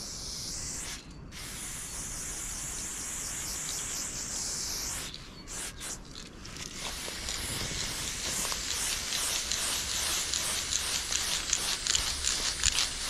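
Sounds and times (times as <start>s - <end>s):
spray paint can hissing: 0.0s - 13.0s.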